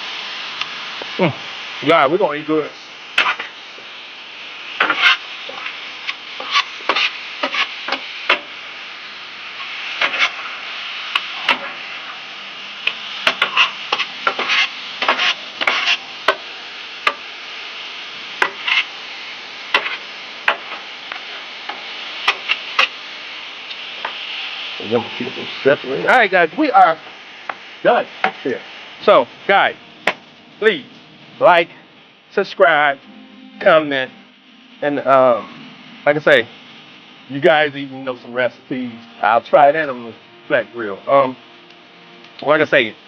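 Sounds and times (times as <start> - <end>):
food sizzling on a grill: 0.0 - 43.0.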